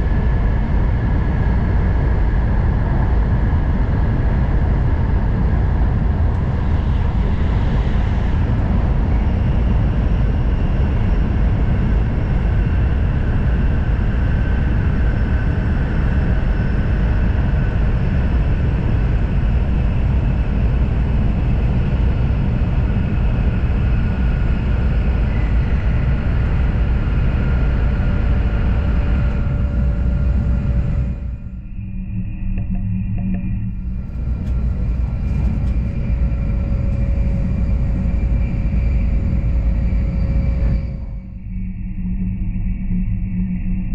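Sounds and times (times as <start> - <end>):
train rumble from inside: 0.0 - 31.7, 32.6 - 42.0
faint whining tones: 5.9 - 43.9.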